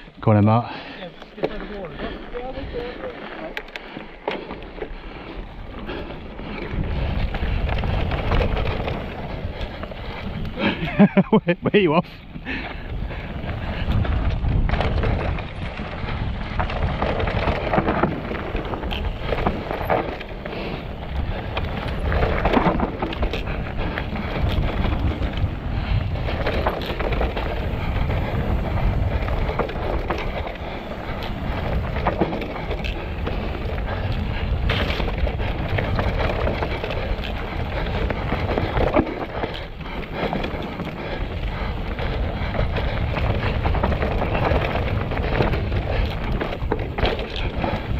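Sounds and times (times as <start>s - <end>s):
tyres rumbling on rock: 1.4s - 47.9s
wind buffeting microphone: 1.6s - 47.9s
bike knocks and rattles: 6.7s - 11.4s, 13.4s - 47.9s.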